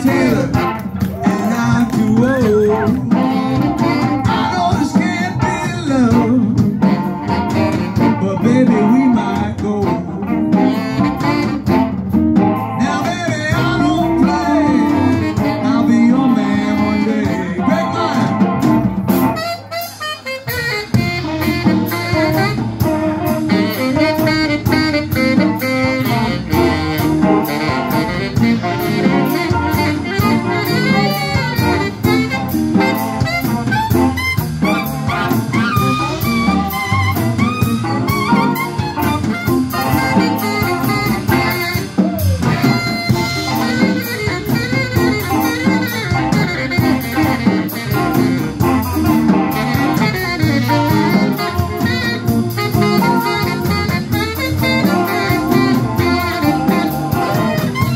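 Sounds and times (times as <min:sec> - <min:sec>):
blues band playing: 0:00.0 - 0:57.9
saxophone lead: 0:00.0 - 0:57.9.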